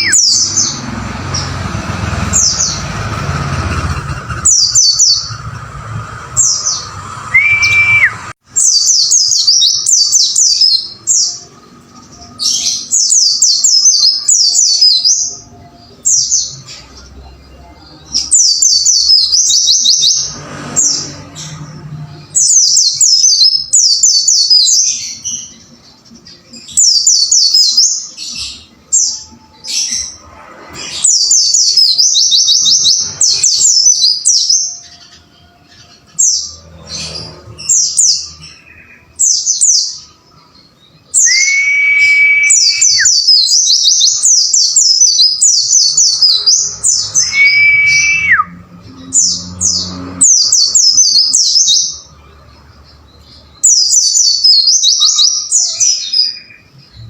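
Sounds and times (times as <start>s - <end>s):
bird high twittering song: 0.0s - 57.0s.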